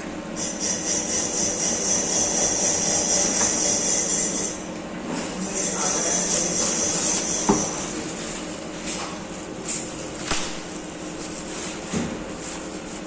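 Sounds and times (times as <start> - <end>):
workshop machinery humming: 0.0 - 13.0.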